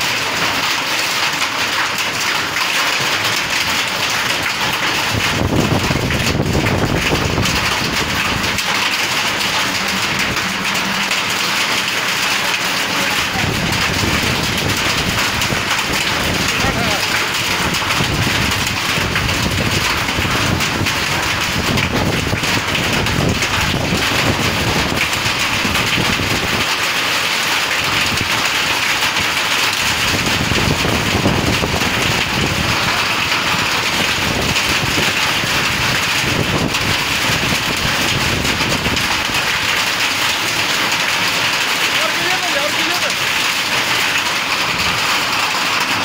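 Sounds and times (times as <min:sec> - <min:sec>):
hail and heavy rain pelting: 0:00.0 - 0:46.0.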